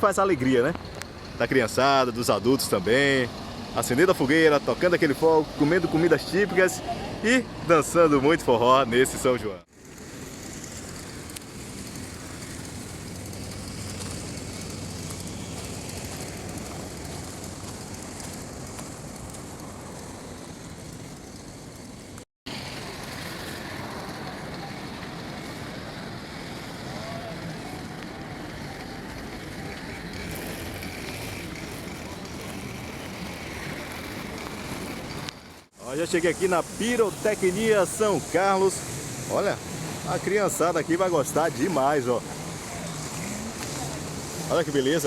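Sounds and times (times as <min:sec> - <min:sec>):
cars passing: 0:00.0 - 0:45.0.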